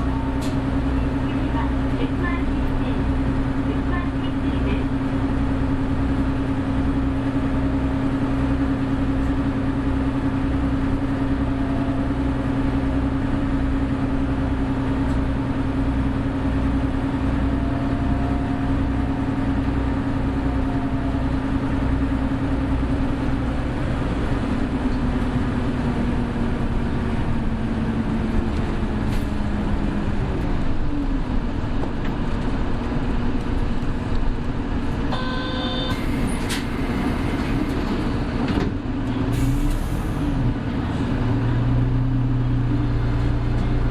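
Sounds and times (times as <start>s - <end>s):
bus engine drone: 0.0s - 43.9s
road noise: 0.0s - 43.9s.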